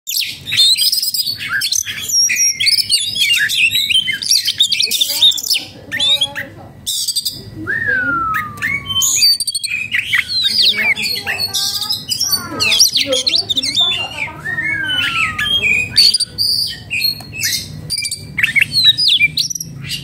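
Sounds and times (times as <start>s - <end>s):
bird singing whistles and harsh notes: 0.1s - 20.0s.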